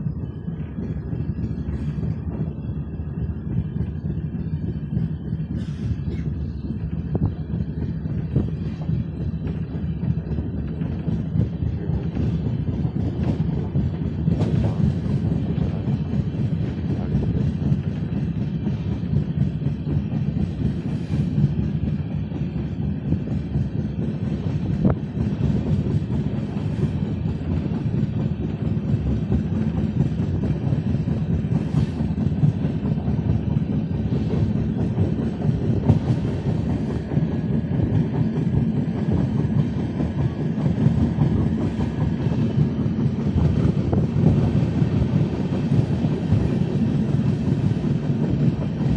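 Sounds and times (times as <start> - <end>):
clacks over rail joints: 0.0 - 48.9
train wheels rumbling on rail: 0.0 - 48.9.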